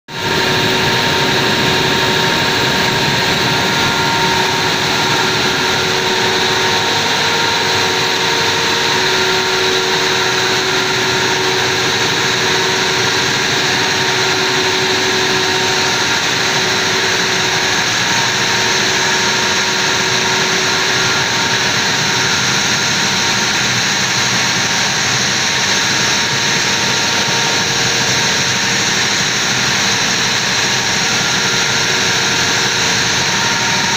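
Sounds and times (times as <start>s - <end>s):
diesel generator running: 0.1s - 33.9s
steady whining tones: 0.2s - 33.9s.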